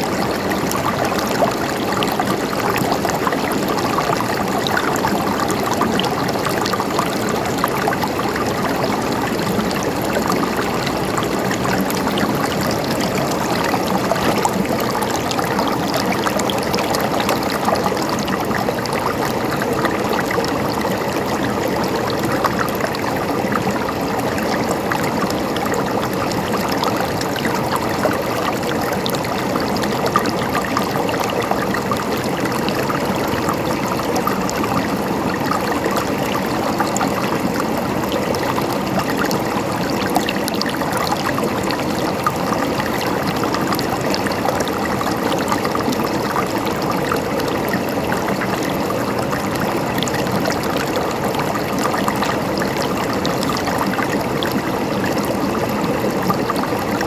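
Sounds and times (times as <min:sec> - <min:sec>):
stream gurgling over rocks: 0:00.0 - 0:57.0.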